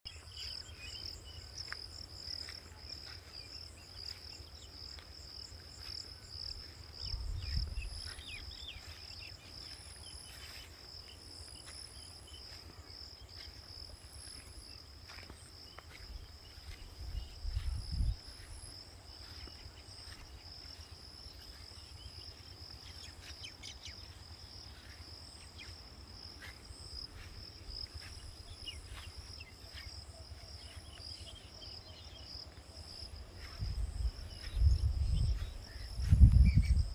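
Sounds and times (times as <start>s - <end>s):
high insect chirps: 0.1s - 36.9s.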